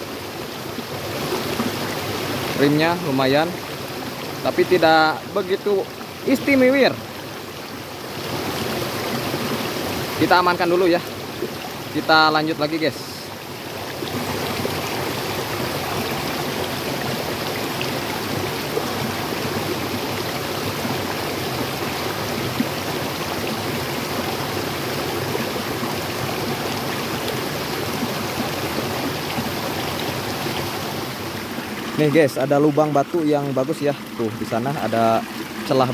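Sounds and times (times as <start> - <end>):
river water running over rocks: 0.0 - 35.9.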